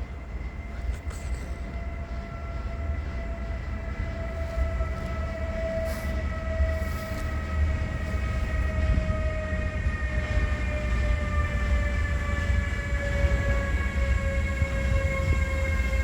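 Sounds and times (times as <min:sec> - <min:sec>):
freight train rumbling: 0:00.0 - 0:16.0
locomotive whine: 0:00.0 - 0:16.0.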